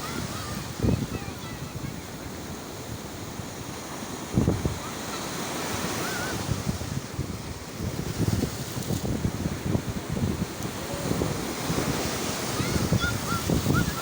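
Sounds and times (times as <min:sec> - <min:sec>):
sea waves washing on shore: 0:00.0 - 0:14.0
wind buffeting microphone: 0:00.0 - 0:14.0.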